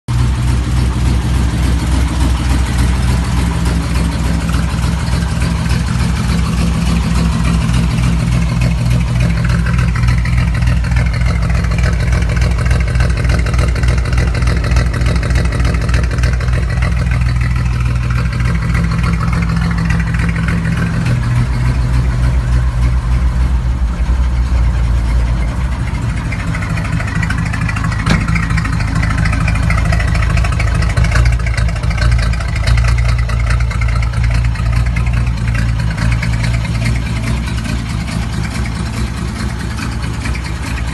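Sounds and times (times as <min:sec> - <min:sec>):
engine idling: 0:00.1 - 0:40.9.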